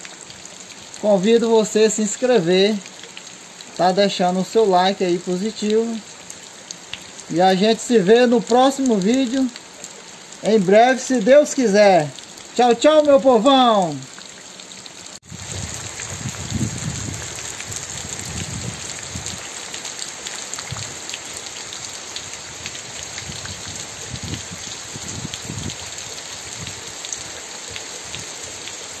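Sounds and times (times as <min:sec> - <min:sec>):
heavy rain on wet ground: 0:00.0 - 0:29.0.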